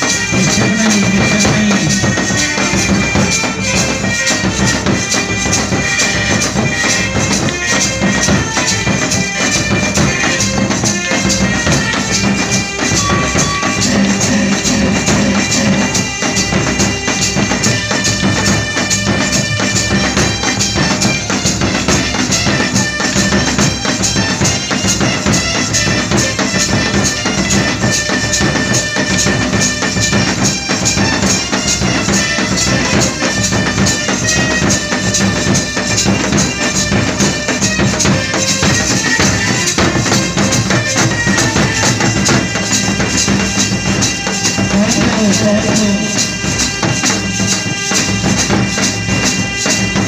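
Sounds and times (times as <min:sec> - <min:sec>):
drums beaten fast: 0:00.0 - 0:50.0
reedy wind instrument: 0:00.0 - 0:50.0.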